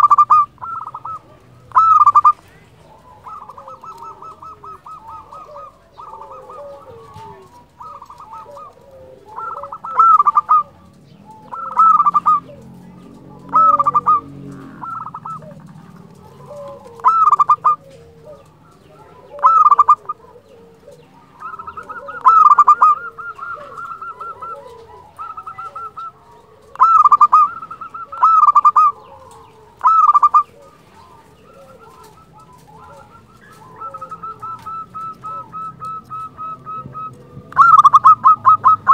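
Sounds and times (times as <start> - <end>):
dove cooing song: 0.0 - 38.9.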